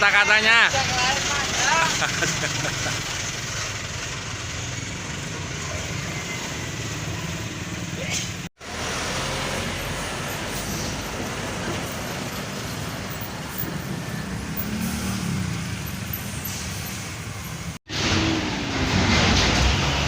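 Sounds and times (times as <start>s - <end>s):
road traffic: 0.0s - 20.0s
truck engines passing: 0.0s - 20.0s.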